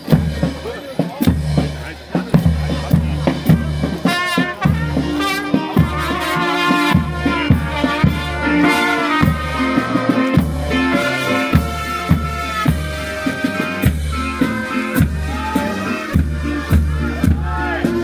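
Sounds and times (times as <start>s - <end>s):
bass: 0.0s - 18.0s
steady drum beat: 0.0s - 18.0s
trumpets and trombones: 2.4s - 18.0s.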